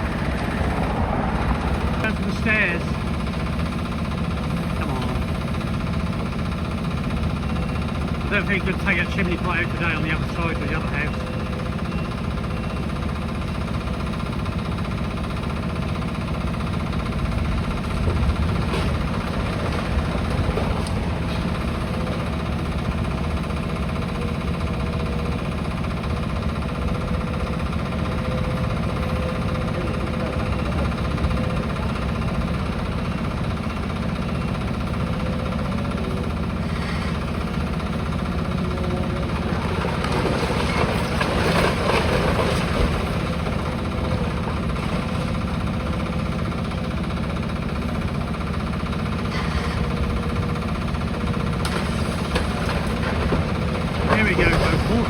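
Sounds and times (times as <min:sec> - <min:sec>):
demolition machine engine running: 0:00.0 - 0:55.0.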